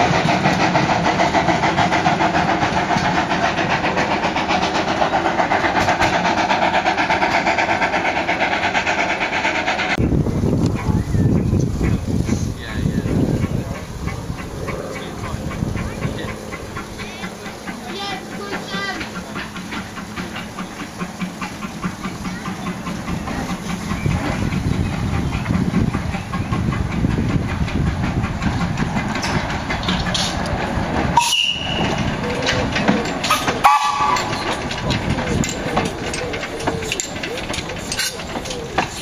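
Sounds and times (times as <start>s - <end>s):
steam locomotive running: 0.0s - 39.0s.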